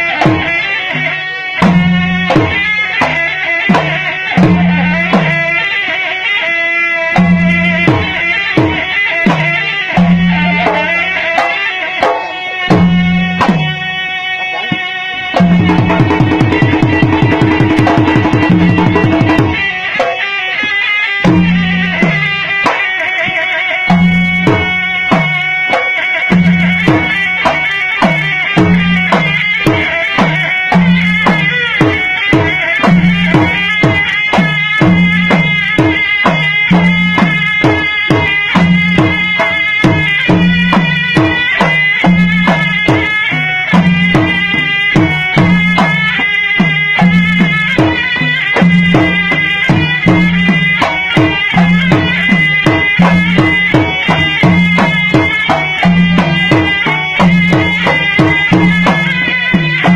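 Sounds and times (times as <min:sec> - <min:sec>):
drums beating fast patterns: 0:00.0 - 0:59.9
oboe melody: 0:00.0 - 0:59.9.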